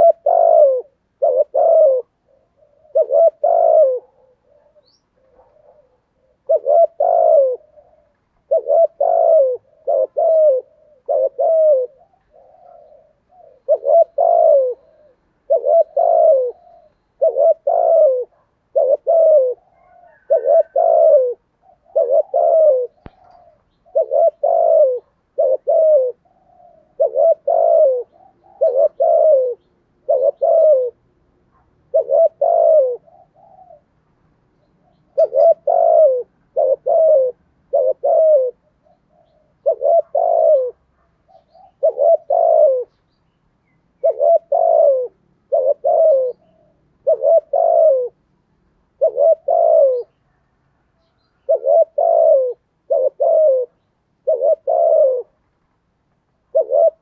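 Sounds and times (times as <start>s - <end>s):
dove cooing: 0.0s - 55.5s, 56.3s - 57.0s.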